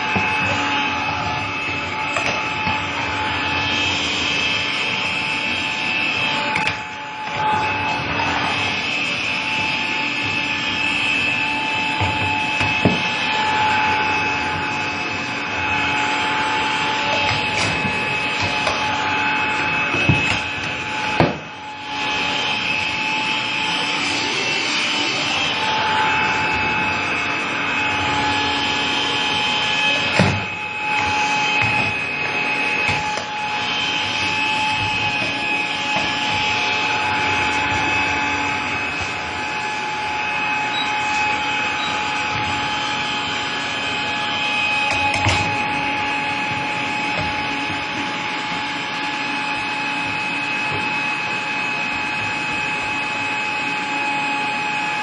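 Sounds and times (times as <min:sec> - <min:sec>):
vacuum cleaner whining: 0:00.0 - 0:55.0.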